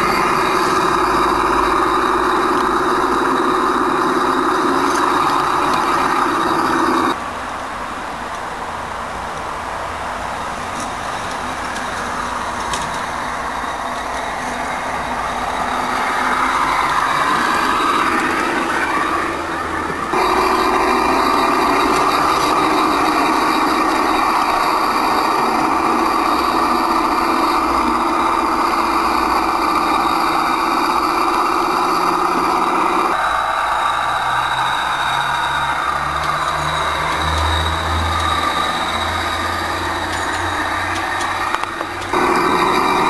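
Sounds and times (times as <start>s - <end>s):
simulated diesel engine sound: 0.0s - 43.0s.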